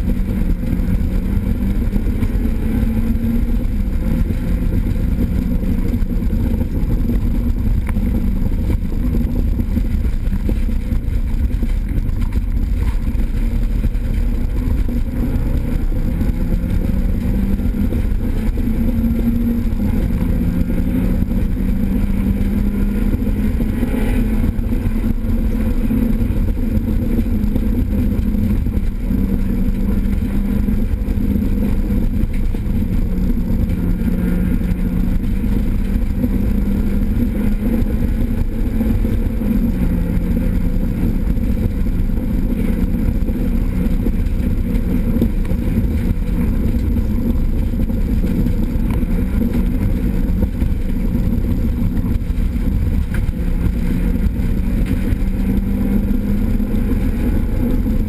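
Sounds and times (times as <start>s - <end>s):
car engine running hard: 0.0s - 58.0s
road and mechanical noise: 0.0s - 58.0s.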